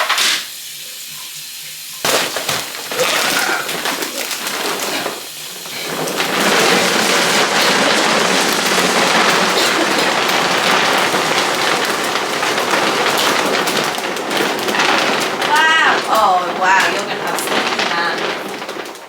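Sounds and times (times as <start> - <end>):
dry kibble pouring into a bin: 2.0 - 19.0.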